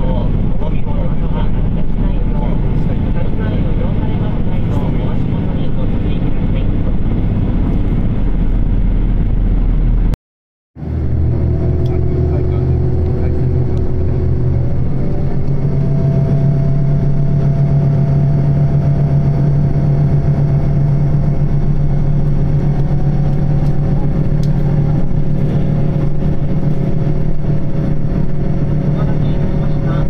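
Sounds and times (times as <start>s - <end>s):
train running noise: 0.0s - 10.1s, 10.8s - 30.0s
railcar engine drone: 0.0s - 10.2s, 10.8s - 30.0s.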